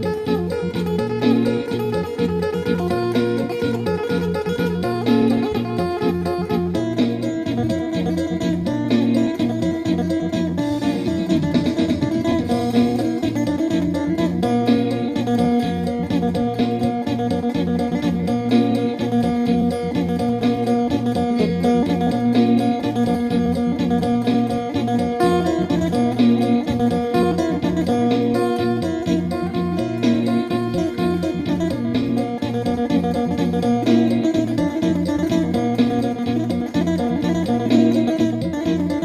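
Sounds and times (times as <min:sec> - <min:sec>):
plucked lute melody: 0:00.0 - 0:39.0.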